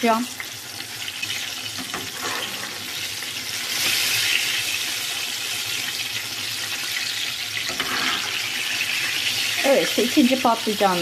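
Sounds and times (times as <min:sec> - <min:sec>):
eggplant deep-frying in oil: 0:00.0 - 0:11.0
wire skimmer in frying pieces: 0:00.0 - 0:11.0.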